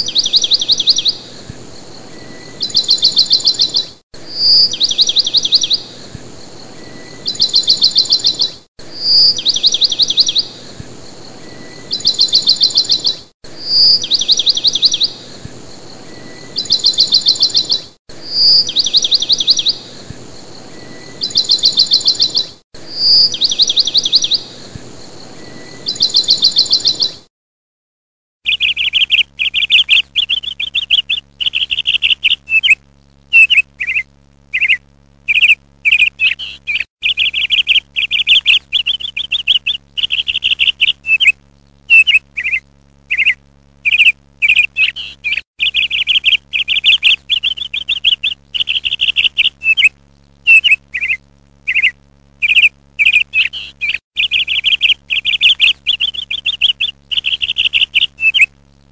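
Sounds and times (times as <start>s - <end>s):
small bird chirping: 0.0s - 27.3s, 28.4s - 58.9s.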